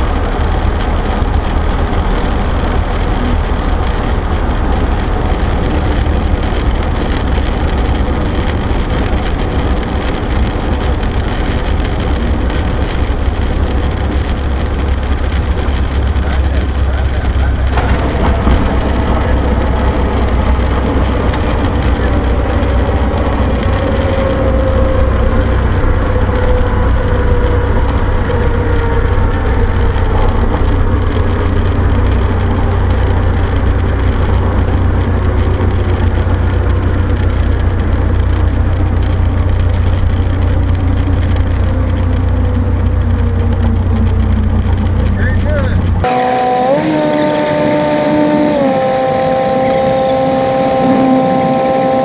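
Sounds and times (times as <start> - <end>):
propeller plane engine drone: 0.0 - 52.0.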